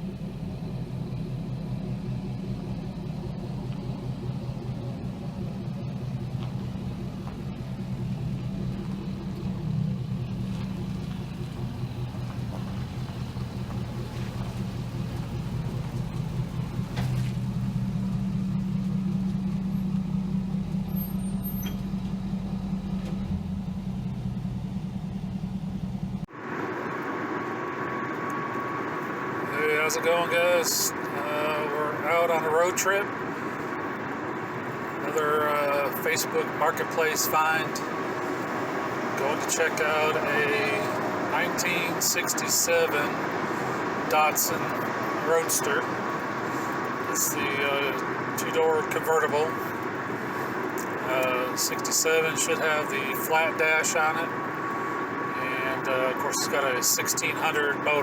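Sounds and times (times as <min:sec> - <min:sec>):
engine droning: 0:00.0 - 0:58.0
rushing road or wind noise: 0:00.0 - 0:58.0.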